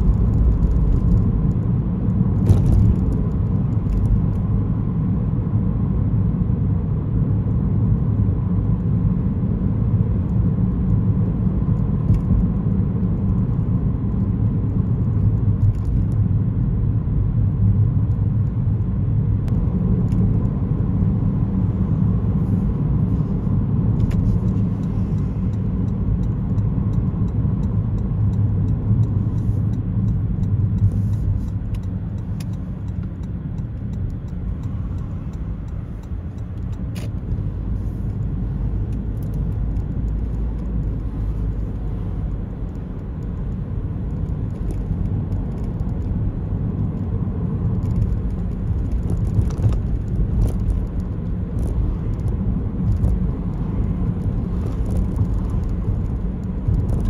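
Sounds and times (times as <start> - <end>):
car driving interior rumble: 0.0 - 57.0.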